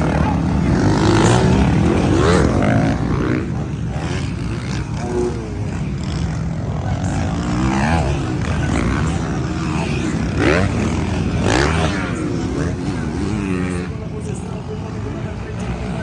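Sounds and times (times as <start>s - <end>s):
motocross bikes racing: 0.0s - 16.0s.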